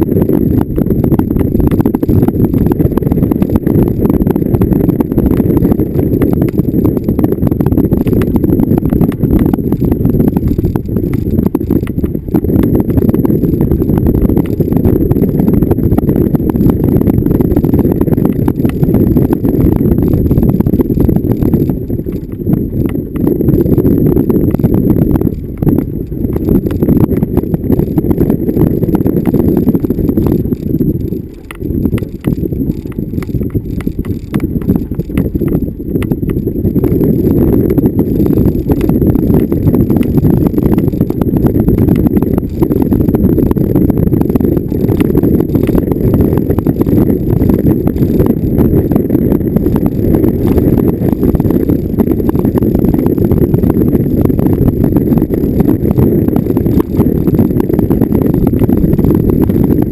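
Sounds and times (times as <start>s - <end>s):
vehicle driving over rough ground: 0.0s - 59.9s.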